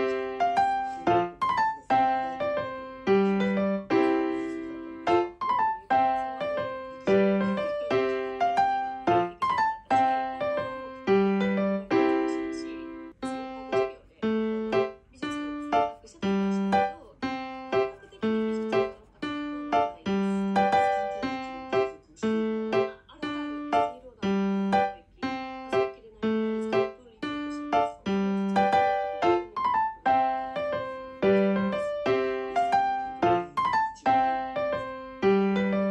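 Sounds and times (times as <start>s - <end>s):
solo piano melody: 0.0s - 35.9s.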